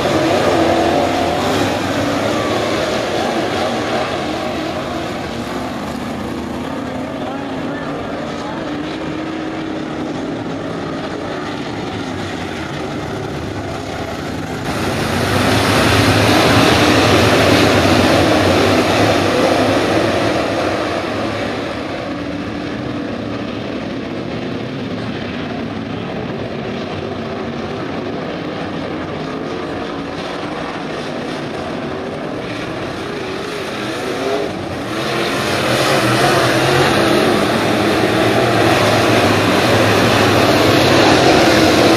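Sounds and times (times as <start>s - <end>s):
race car engines droning: 0.0s - 41.9s.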